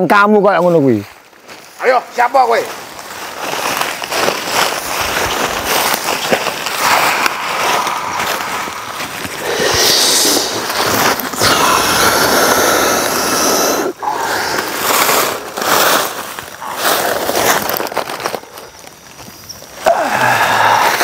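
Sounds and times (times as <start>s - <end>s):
dry leaves crunching: 0.7s - 20.8s.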